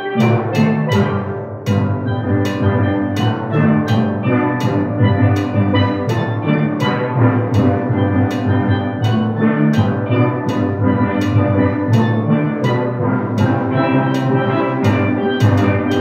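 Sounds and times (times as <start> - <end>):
steel pan ensemble playing: 0.0 - 16.0.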